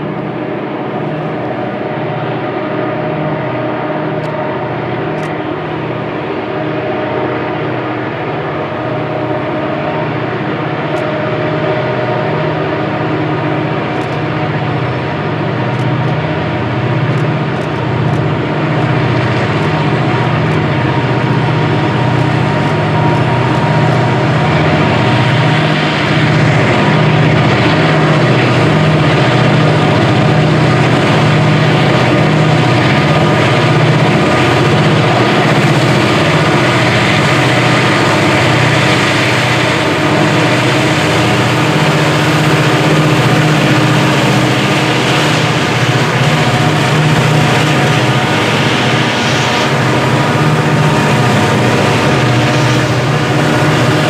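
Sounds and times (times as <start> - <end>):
diesel locomotives under heavy load: 0.0 - 54.0.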